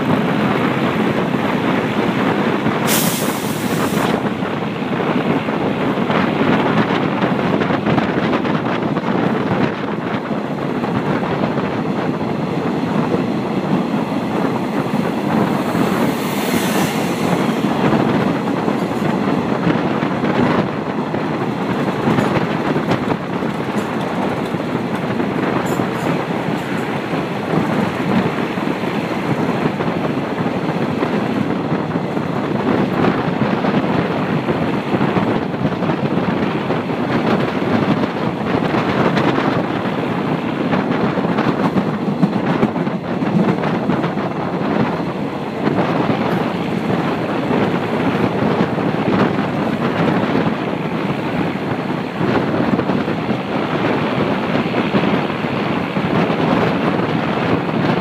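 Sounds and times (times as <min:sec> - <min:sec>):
train running rumble: 0:00.0 - 0:58.0
wind rushing over microphone: 0:00.0 - 0:58.0.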